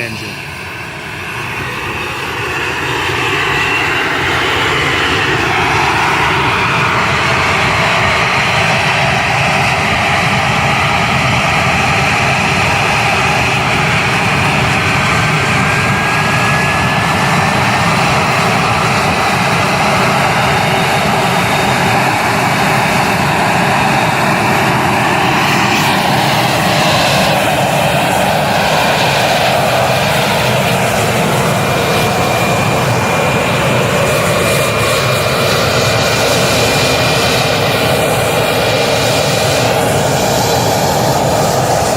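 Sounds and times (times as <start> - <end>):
turbine engine whine: 0.0 - 41.9.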